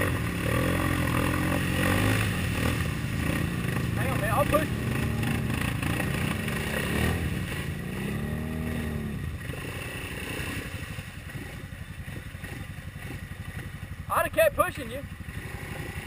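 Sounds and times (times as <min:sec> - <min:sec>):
atv engine revving: 0:00.0 - 0:16.0
engine fast putter: 0:00.0 - 0:16.0.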